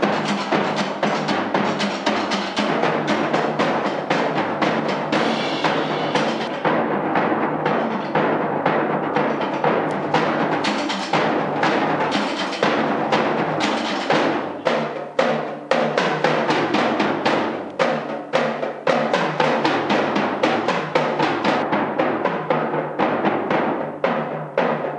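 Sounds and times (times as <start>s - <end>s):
drums played with sticks: 0.0s - 24.9s.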